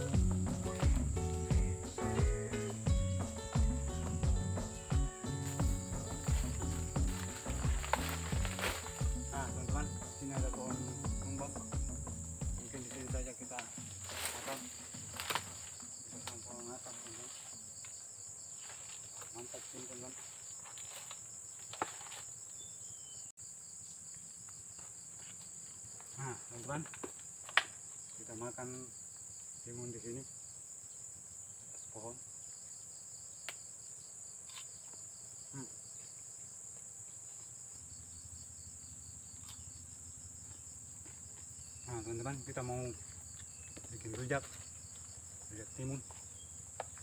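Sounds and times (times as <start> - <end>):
crickets chirping: 0.0 - 47.0
insects droning: 0.0 - 47.0.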